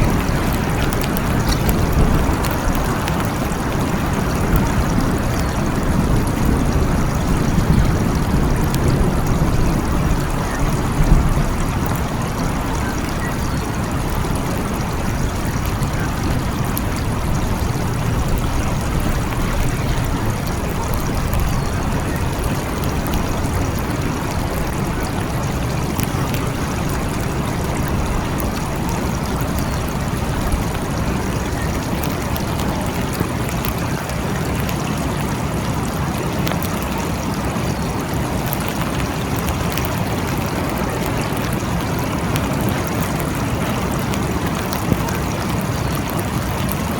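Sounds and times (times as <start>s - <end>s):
drips ticking: 0.0s - 46.9s
steady rain: 0.0s - 46.9s.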